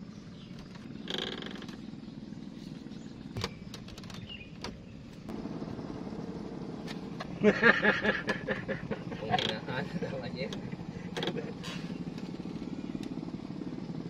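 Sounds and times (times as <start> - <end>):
boat engine pulsing: 0.0 - 14.0.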